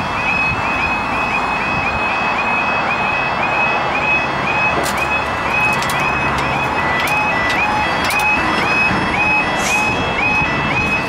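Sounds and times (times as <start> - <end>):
level crossing warning alarm: 0.0 - 11.0.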